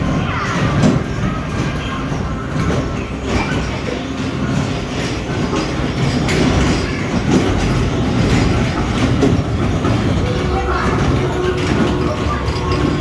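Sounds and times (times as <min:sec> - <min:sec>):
kiddie train rumbling on track: 0:00.0 - 0:13.0.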